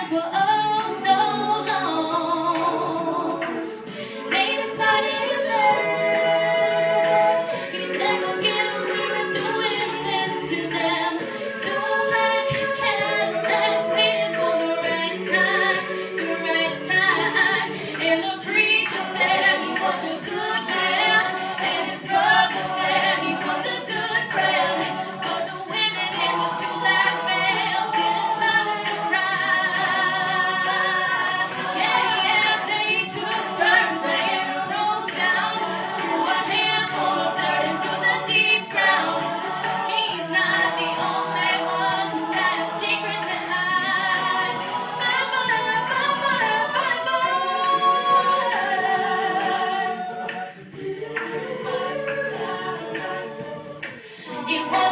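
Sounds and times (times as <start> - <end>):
a cappella group singing: 0.0 - 54.9.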